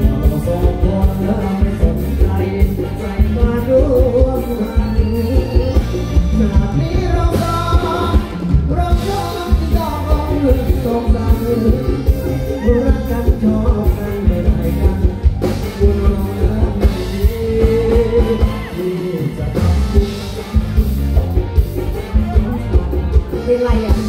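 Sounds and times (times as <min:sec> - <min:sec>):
live rock band playing: 0:00.0 - 0:24.0
man singing: 0:00.0 - 0:24.0.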